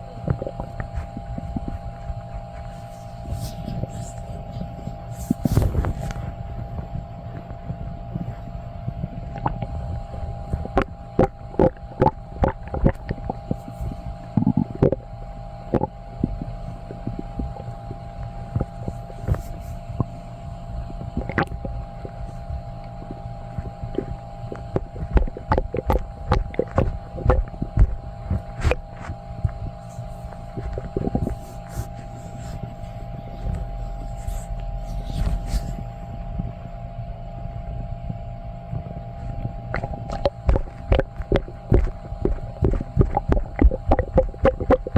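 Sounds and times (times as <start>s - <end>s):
steady hum: 0.0s - 44.9s
stomach gurgling: 0.0s - 44.9s.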